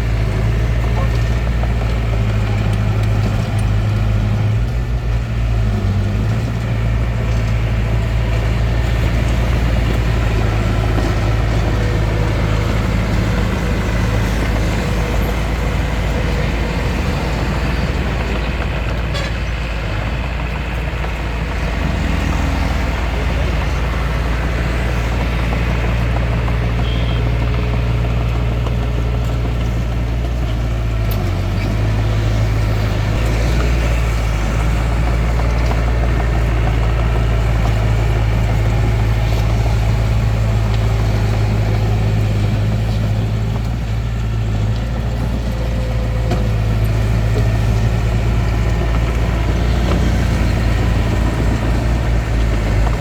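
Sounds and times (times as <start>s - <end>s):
bulldozer engine running: 0.0s - 53.0s.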